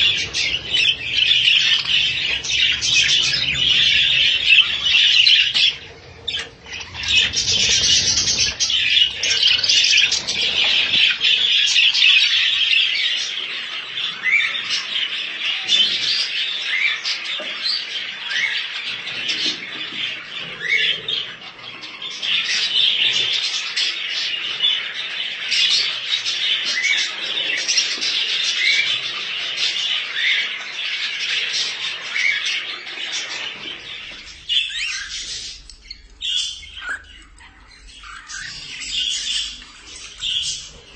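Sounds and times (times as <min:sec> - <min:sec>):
parrots chattering and squawking: 0:00.0 - 0:40.9.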